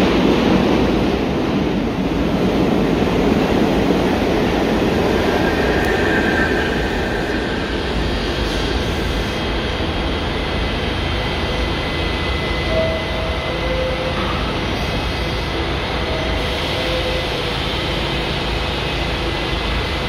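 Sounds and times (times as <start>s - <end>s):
subway train rumble: 0.0s - 20.0s
train pulling out: 3.0s - 20.0s.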